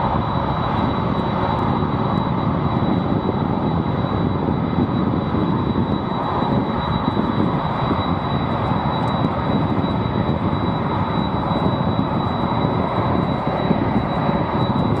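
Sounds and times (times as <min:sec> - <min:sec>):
deep jet engine roar: 0:00.0 - 0:15.0
thin steady high tone: 0:00.0 - 0:15.0.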